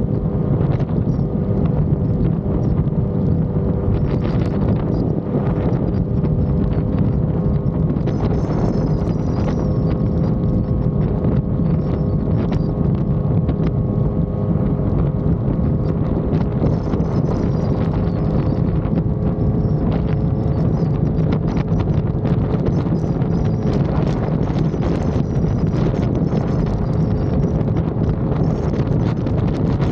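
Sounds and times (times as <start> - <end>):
motorcycle engine running: 0.0 - 29.9
wind buffeting microphone: 0.0 - 29.9.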